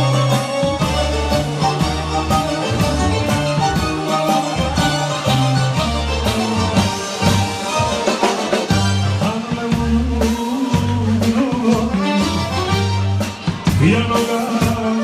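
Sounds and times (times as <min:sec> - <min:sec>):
accordion: 0:00.0 - 0:15.0
bass line: 0:00.0 - 0:15.0
steady drum beat: 0:00.0 - 0:15.0.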